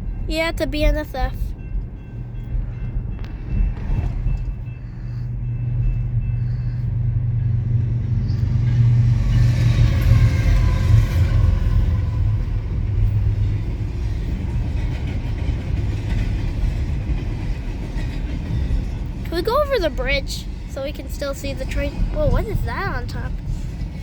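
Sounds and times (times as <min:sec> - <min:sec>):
freight train locomotive rumble: 0:00.0 - 0:24.0.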